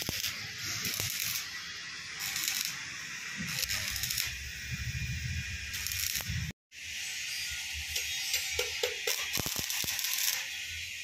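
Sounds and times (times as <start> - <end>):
welding arc crackling and hissing: 0.0 - 11.0.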